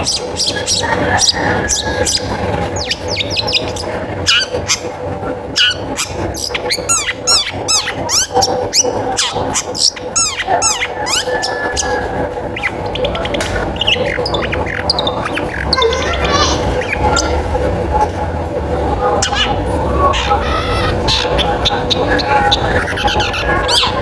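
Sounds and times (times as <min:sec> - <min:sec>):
shrike singing chattering song: 0:00.0 - 0:18.0, 0:19.0 - 0:24.0.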